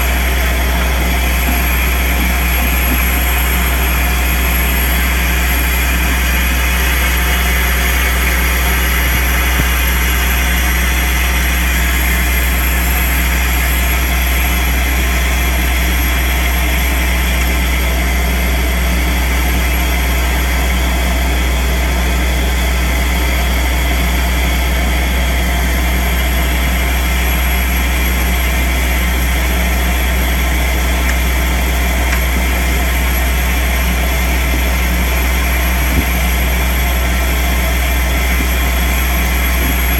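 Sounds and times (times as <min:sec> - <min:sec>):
soil vacuum machine droning: 0:00.0 - 0:39.9.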